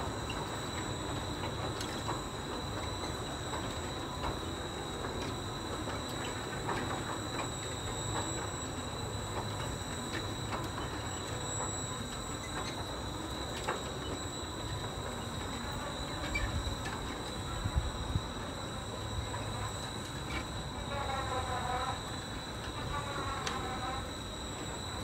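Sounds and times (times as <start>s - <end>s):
ride mechanical rumble: 0.0s - 25.0s.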